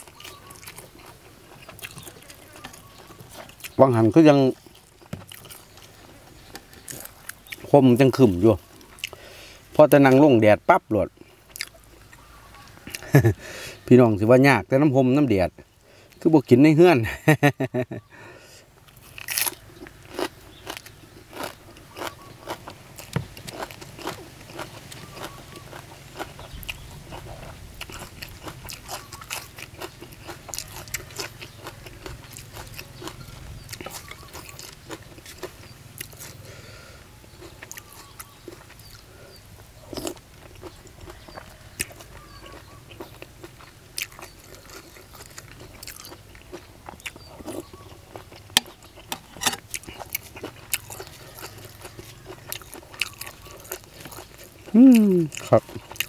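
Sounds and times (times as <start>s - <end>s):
man chewing crunchy greens: 0.0s - 56.0s.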